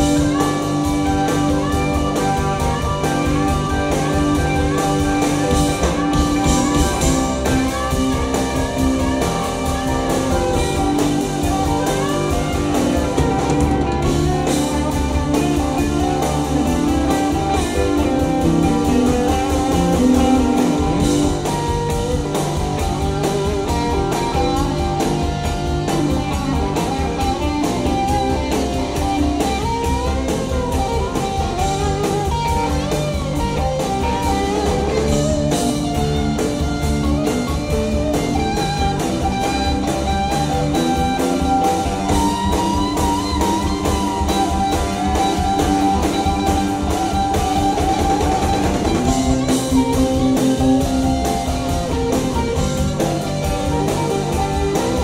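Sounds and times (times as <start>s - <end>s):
bass guitar: 0.0s - 55.0s
drum kit: 0.0s - 55.0s
electric guitars with bent notes: 0.0s - 55.0s.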